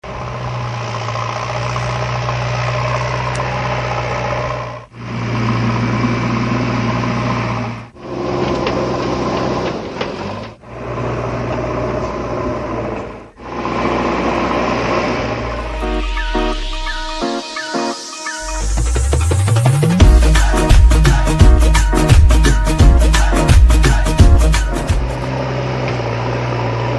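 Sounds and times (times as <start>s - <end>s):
diesel engine humming: 0.0s - 26.9s.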